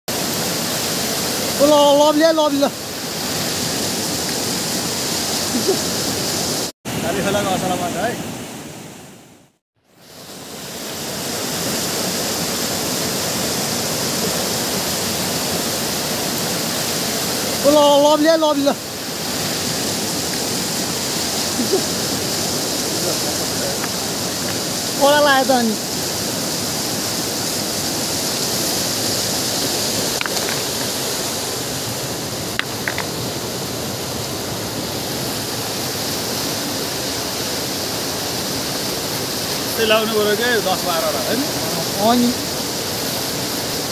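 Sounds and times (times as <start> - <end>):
river rushing over rocks: 0.1 - 8.8, 10.0 - 43.9.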